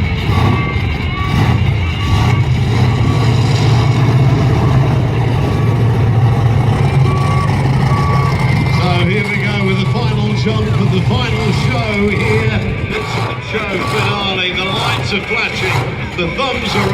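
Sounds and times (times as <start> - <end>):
monster truck engine running: 0.0 - 16.9.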